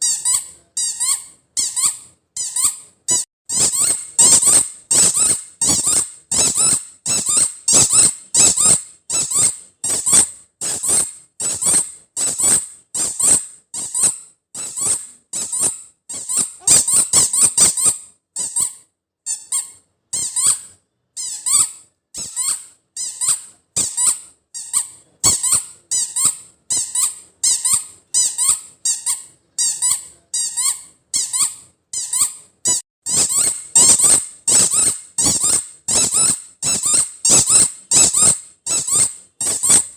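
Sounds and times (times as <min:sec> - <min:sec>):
squeaky toy ball squeaks: 0:00.0 - 0:39.9.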